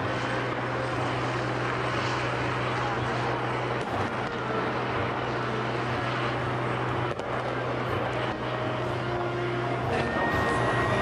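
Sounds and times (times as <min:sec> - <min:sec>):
distant fireworks popping: 0:00.0 - 0:11.0
low engine hum: 0:00.0 - 0:11.0.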